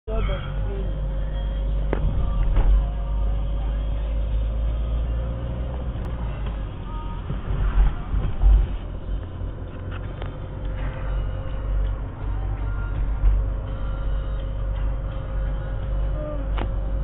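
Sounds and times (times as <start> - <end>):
car engine and tyre rumble: 0.1 - 17.0
heavy low thumps: 0.9 - 17.0.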